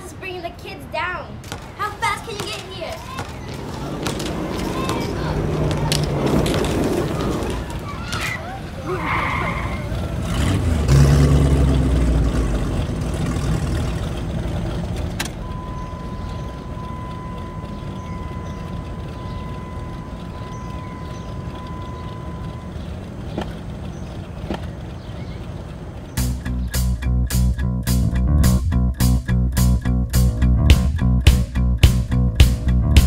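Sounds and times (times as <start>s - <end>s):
car engine low rumble: 3.7s - 33.0s.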